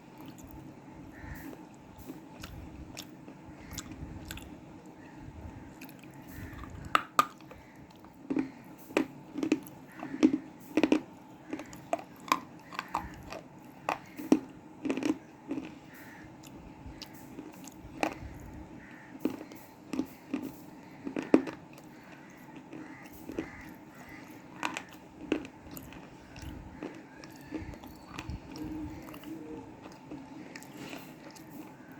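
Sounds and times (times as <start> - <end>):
crunching slate chewing: 0.0 - 31.9.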